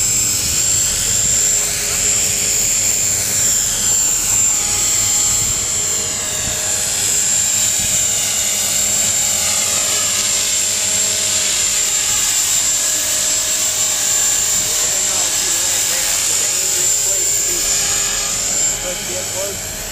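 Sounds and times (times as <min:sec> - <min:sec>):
motor and gears whining: 0:00.0 - 0:19.9
rotor blades whirring: 0:00.0 - 0:19.9.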